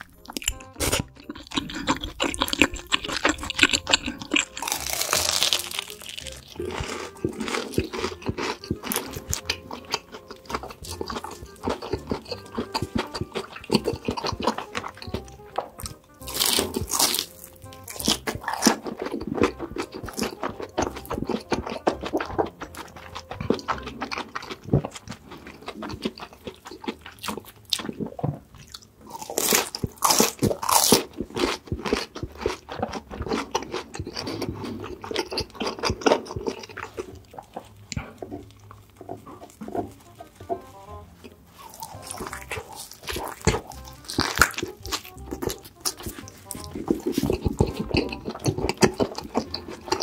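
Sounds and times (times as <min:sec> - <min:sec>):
background music: 0:00.0 - 0:50.0
crunchy chewing of food: 0:00.0 - 0:50.0.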